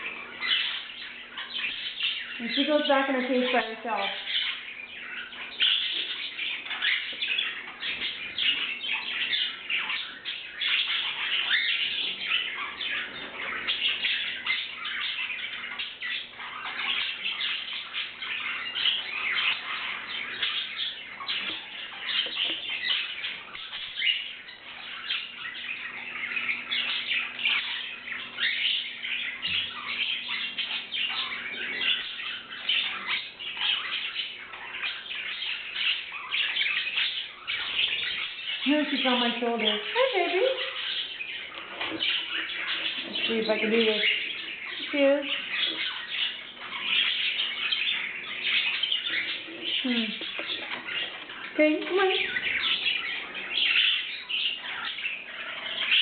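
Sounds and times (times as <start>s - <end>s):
canaries chirping: 0.0s - 56.0s.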